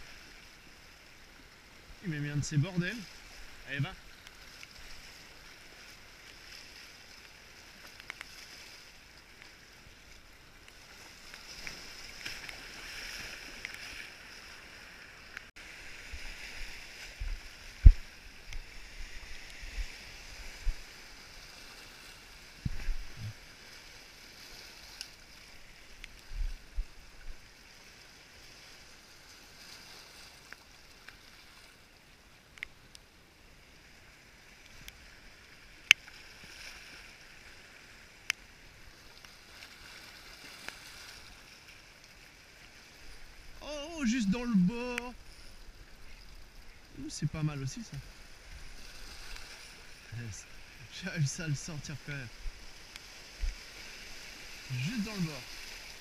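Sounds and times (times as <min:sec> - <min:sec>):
sea washing over pebbles: 0:00.0 - 0:31.9, 0:33.6 - 0:56.0.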